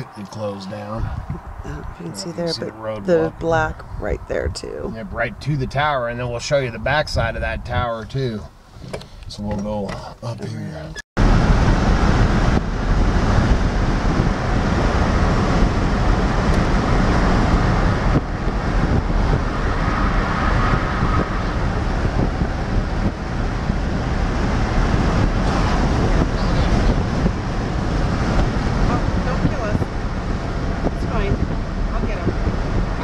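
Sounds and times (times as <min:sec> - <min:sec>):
wind buffeting microphone: 0:00.0 - 0:08.0, 0:11.2 - 0:33.0
vehicle road noise: 0:00.0 - 0:33.0.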